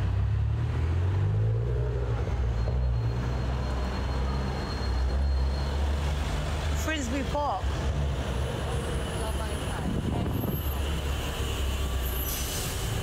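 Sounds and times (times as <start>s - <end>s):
street traffic: 0.0s - 13.0s
vehicle engine rumbling: 0.0s - 13.0s.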